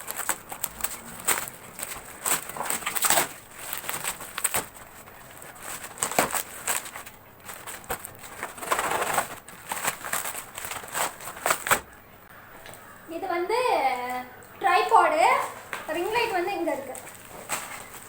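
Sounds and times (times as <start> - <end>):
packaging rustling and crackling: 0.0 - 12.0, 14.8 - 18.0.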